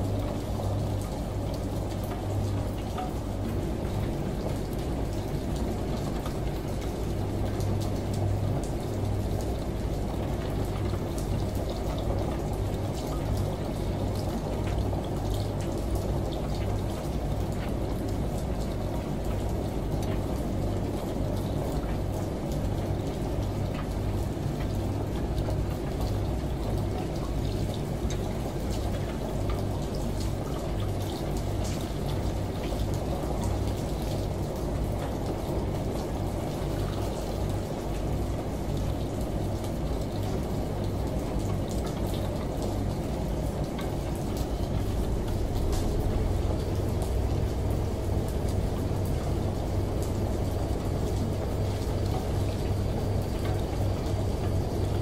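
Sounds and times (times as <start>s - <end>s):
rain: 0.0s - 55.0s
shower water running: 0.0s - 55.0s
washing machine hum: 0.0s - 55.0s.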